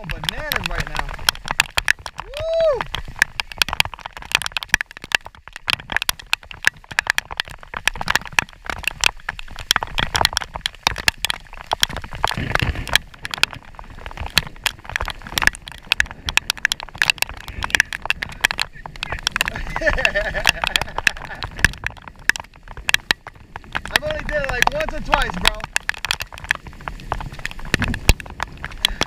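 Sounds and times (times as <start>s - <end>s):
raindrops pattering: 0.0s - 29.0s.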